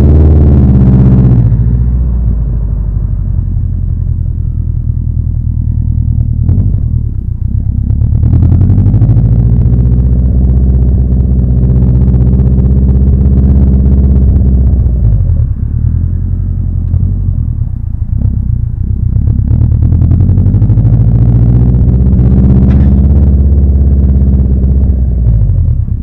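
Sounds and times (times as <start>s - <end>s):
car engine deep drone: 0.0s - 26.0s.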